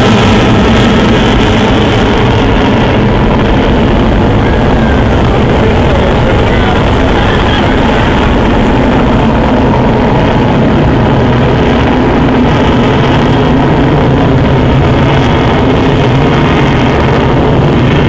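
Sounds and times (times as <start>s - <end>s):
jet engines roaring overhead: 0.0s - 18.0s.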